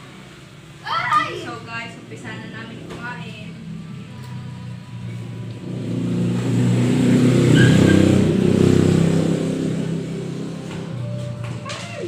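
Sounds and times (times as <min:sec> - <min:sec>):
vehicle engine passing by: 0:01.4 - 0:12.0.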